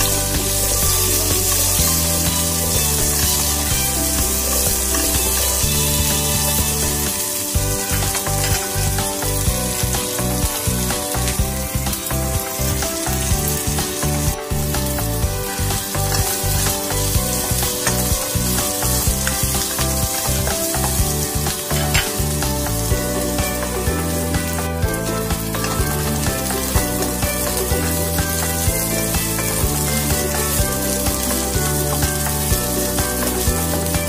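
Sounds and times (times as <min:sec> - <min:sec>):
music with steady beat: 0:00.0 - 0:34.0
shallots sizzling in hot oil: 0:00.0 - 0:34.0.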